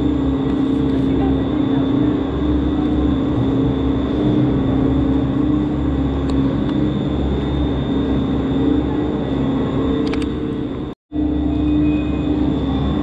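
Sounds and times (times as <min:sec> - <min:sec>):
constant mid-pitched tone: 0:00.0 - 0:13.0
lift machinery hum: 0:00.0 - 0:13.0.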